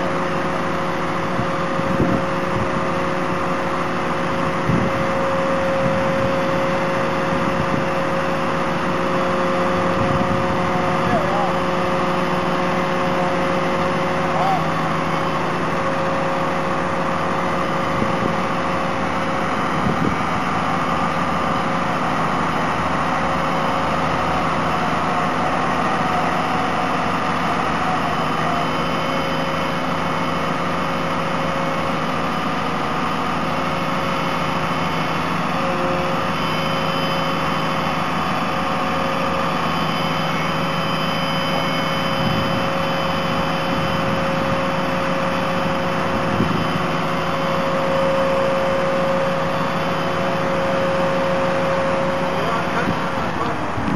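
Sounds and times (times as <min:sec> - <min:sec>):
truck engine running: 0:00.0 - 0:53.9.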